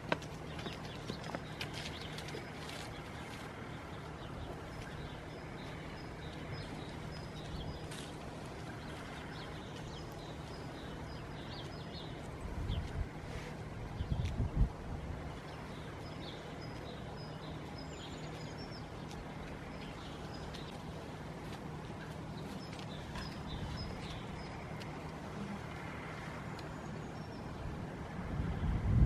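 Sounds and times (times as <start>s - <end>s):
small birds chirping: 0.0s - 27.8s
low outdoor rumble: 0.0s - 29.0s.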